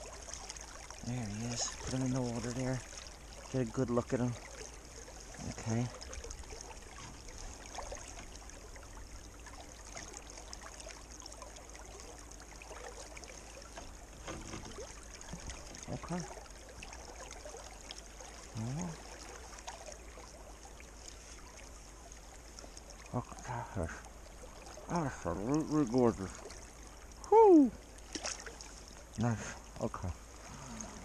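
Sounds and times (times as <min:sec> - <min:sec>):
water running over rocks: 0:00.0 - 0:31.0.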